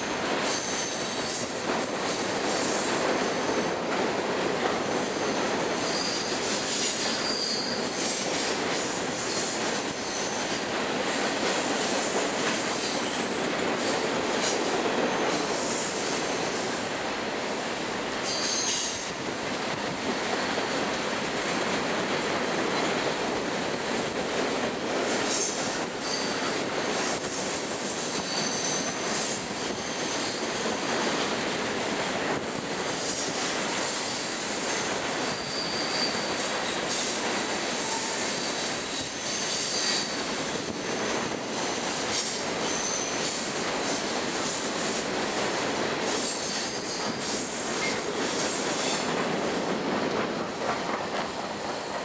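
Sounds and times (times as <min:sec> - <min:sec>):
freight train wheels on rails: 0:00.0 - 0:52.0.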